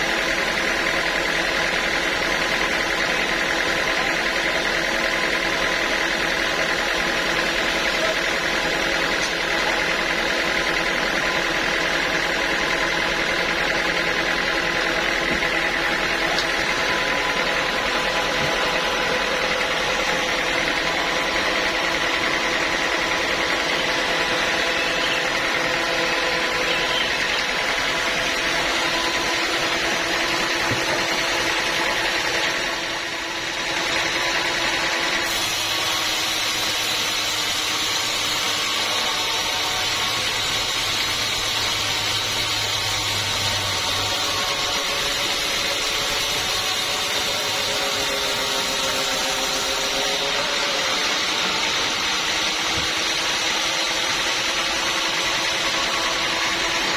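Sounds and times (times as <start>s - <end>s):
sawmill saw cutting wood: 0.0s - 56.9s.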